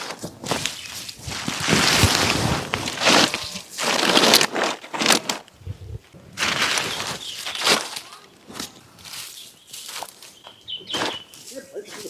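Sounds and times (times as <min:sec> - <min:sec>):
footsteps crunching on ground: 0:00.0 - 0:12.0.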